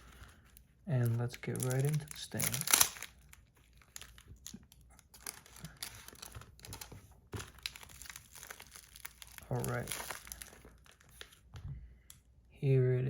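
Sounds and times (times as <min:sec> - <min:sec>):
plastic packaging crinkling and tearing: 0:00.0 - 0:11.5.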